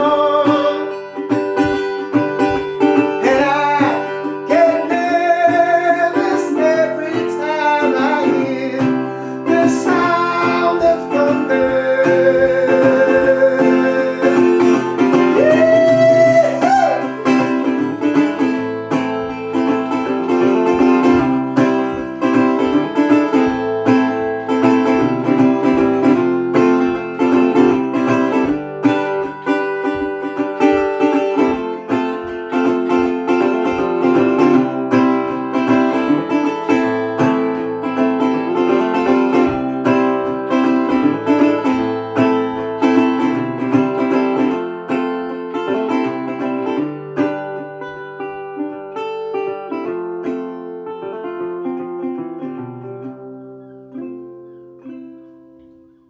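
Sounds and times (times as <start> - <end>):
resonator guitar plucked notes: 0.0 - 56.0.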